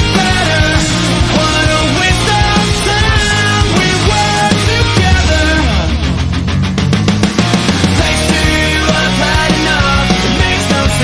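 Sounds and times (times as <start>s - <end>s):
bass: 0.0s - 11.0s
drums: 0.0s - 11.0s
lead guitar with bent notes: 0.0s - 11.0s.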